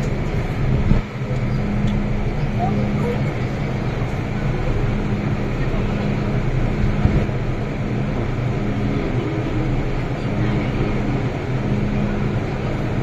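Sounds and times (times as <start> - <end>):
low hum: 0.0 - 13.0
train running noise: 0.0 - 13.0.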